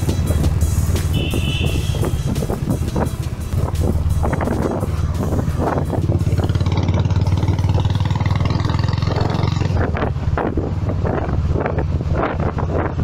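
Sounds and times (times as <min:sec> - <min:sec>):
motorcycle engine running: 0:00.0 - 0:13.0
wind gusting on microphone: 0:00.0 - 0:13.0.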